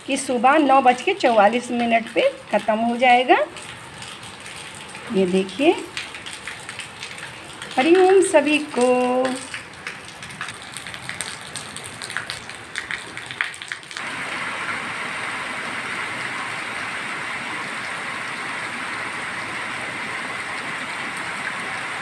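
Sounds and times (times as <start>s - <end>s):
downpour hissing on leaves: 0.0s - 22.0s
raindrops splashing on concrete: 0.0s - 22.0s.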